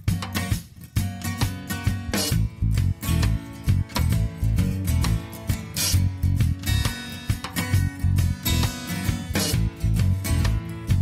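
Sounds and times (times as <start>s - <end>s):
guitar music with rhythmic beat: 0.0s - 11.0s.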